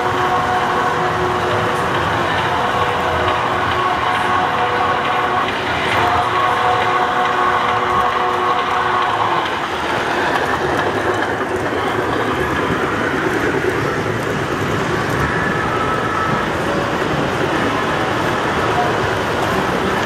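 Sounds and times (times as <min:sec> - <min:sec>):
model trains rumbling on track: 0:00.0 - 0:20.0.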